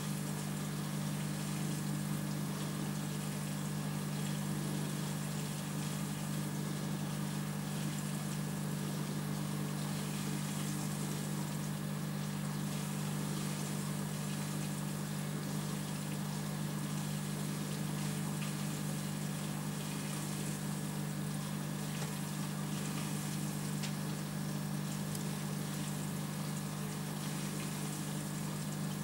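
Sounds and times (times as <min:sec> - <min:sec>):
aquarium pump humming: 0:00.0 - 0:29.0.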